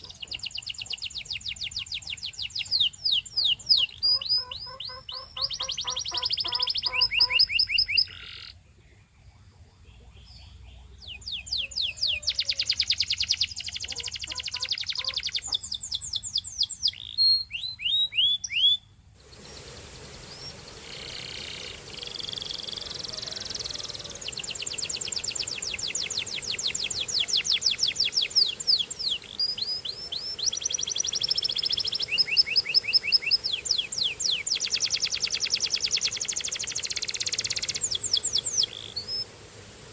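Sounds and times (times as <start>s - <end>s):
canary singing: 0.0s - 8.6s, 9.9s - 18.9s, 20.0s - 39.3s
background hiss: 0.0s - 39.9s.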